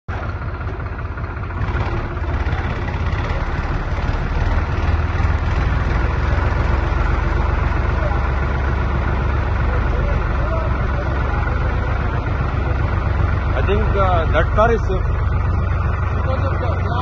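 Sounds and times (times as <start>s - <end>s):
tractor engine running: 0.1s - 17.0s.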